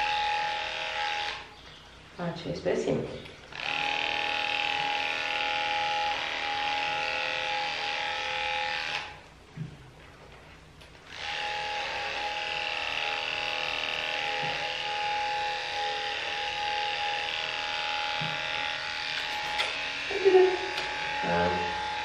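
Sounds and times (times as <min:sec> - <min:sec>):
electric clippers humming: 0:00.0 - 0:01.5, 0:03.5 - 0:09.2, 0:11.0 - 0:22.0.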